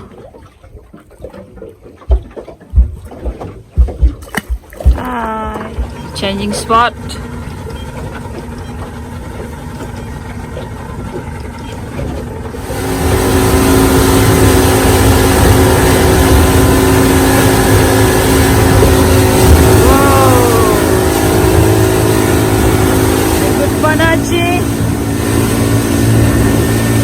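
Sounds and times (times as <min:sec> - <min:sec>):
motorboat engine: 0:00.0 - 0:27.0
wind and water rushing: 0:00.0 - 0:27.0.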